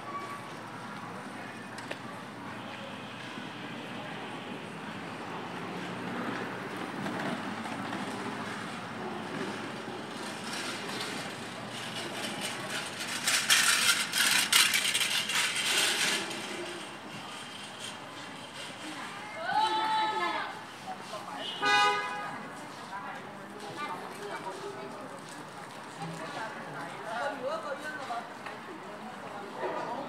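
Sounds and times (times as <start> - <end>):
busy street background: 0.0 - 30.0.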